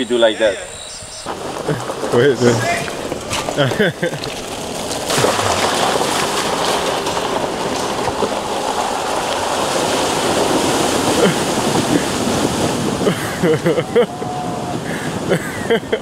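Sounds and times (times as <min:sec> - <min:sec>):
water rushing and splashing: 0:01.2 - 0:16.0.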